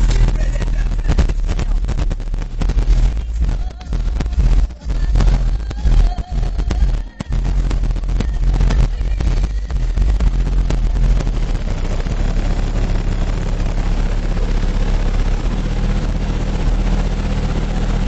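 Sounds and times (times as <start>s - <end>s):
loud distorted subwoofer bass: 0.0s - 18.0s.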